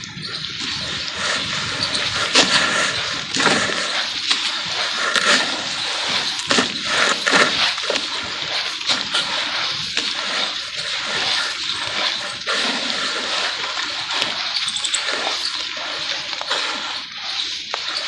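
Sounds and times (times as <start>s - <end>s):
small crackles: 0.0s - 18.0s.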